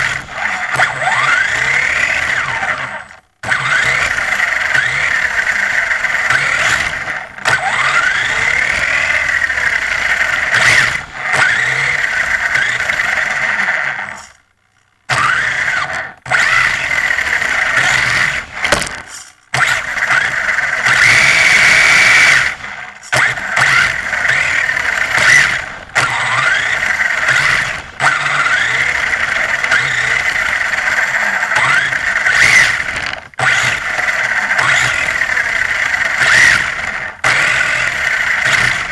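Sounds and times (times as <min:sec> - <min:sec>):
electric motor whine: 0:00.0 - 0:14.4, 0:15.1 - 0:38.9.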